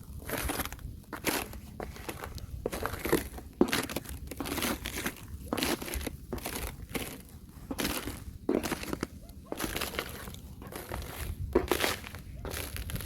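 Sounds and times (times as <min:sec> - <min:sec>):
thin ice crunching and breaking: 0:00.2 - 0:13.0.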